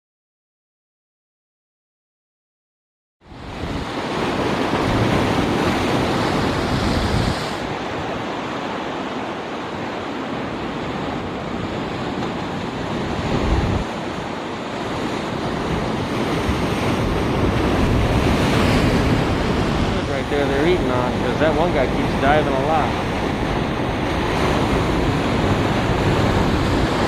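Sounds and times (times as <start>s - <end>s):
ocean surf washing: 3.3s - 27.0s
wind buffeting microphone: 3.3s - 27.0s.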